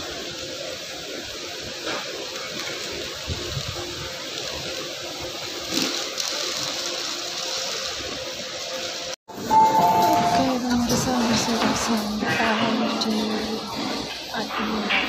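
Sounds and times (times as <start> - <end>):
busy railway platform noise: 0.0 - 15.0.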